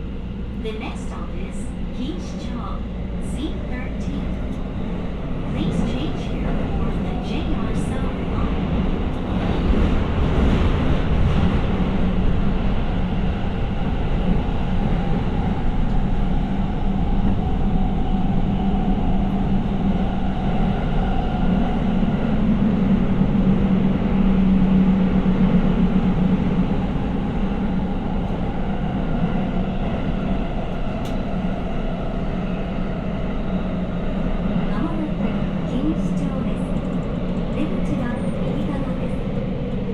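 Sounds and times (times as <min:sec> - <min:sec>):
subway train rumbling: 0:00.0 - 0:39.9.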